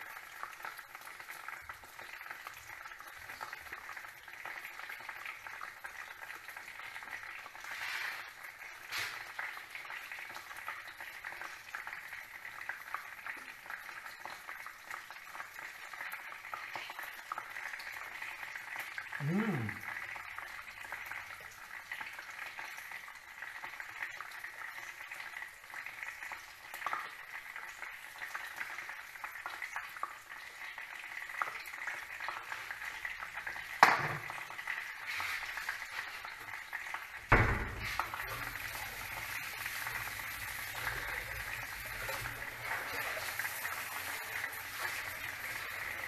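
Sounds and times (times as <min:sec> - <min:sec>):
chicken sizzling in oil: 0:00.0 - 0:46.0.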